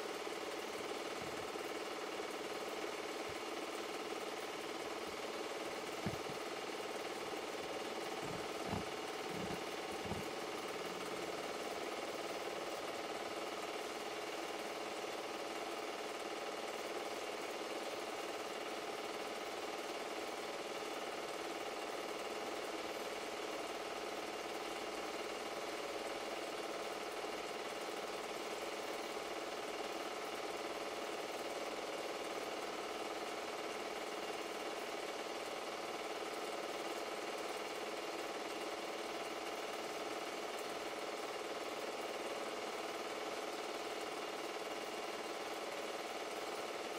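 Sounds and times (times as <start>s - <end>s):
film projector whirring and rattling: 0.0s - 46.9s.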